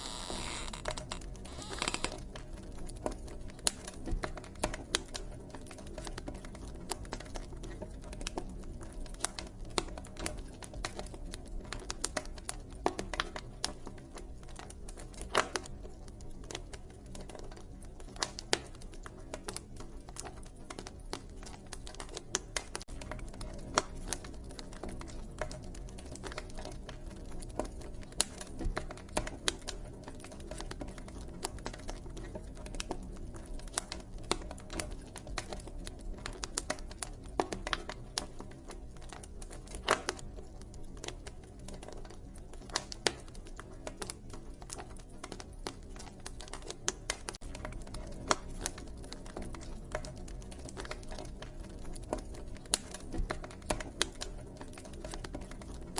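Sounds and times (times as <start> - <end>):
fire popping: 0.0 - 55.9
wood fire crackling: 0.0 - 55.9.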